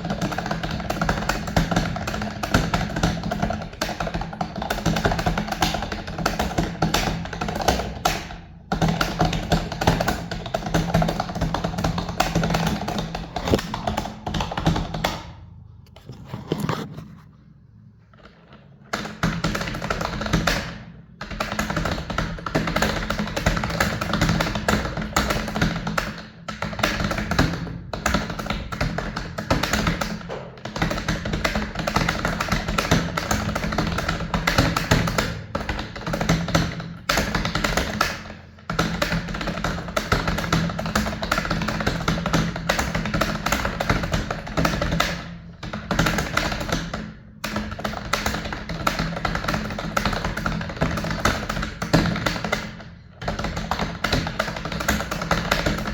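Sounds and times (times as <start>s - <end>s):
fast typing on a keyboard: 0.0s - 15.3s, 18.2s - 55.9s.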